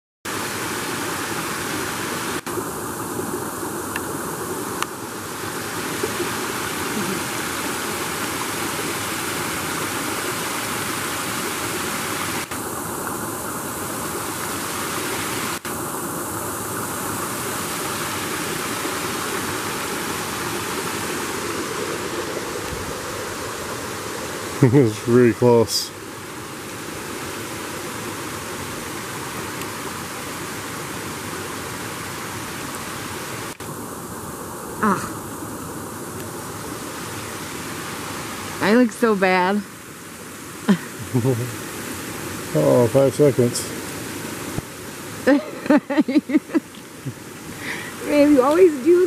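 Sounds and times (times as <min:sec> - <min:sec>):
water splashing over weir: 0:00.3 - 0:34.0, 0:36.0 - 0:49.0.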